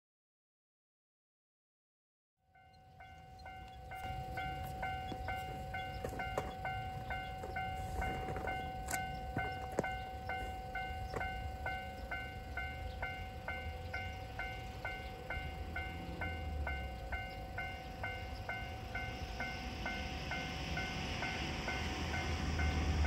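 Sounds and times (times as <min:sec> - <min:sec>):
level-crossing warning bell: 0:02.4 - 0:23.0.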